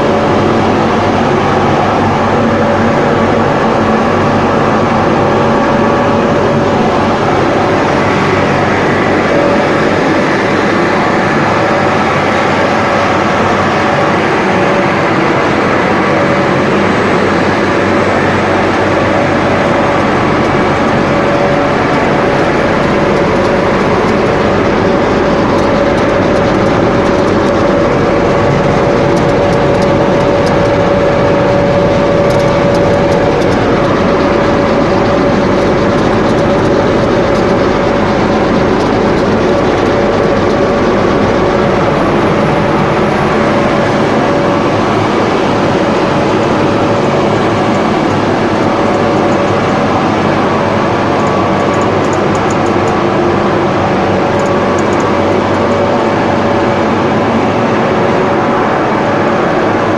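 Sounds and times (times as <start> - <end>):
sanding machine running with whine: 0.0 - 59.9.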